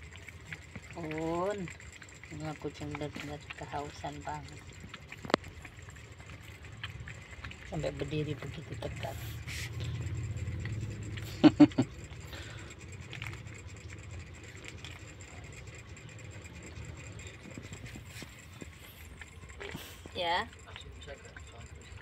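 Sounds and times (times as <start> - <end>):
kitten suckling from bottle: 0.0 - 22.0
low hum: 0.0 - 22.0.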